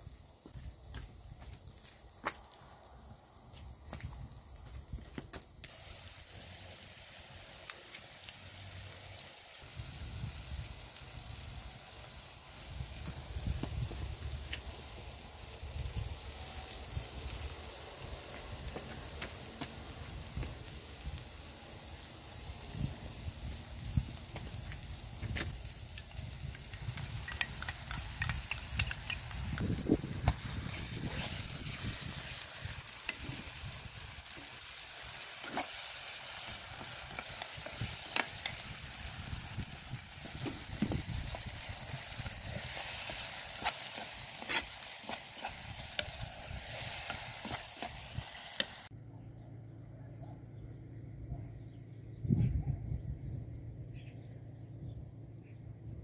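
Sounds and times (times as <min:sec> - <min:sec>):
filling sizzling in frying pan: 0:00.0 - 0:48.9.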